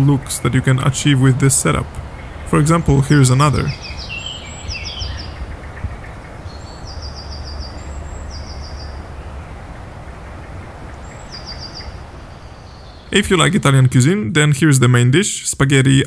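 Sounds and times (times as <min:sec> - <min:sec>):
small birds chirping trills: 0:00.0 - 0:15.8
steady outdoor background noise: 0:00.0 - 0:16.0.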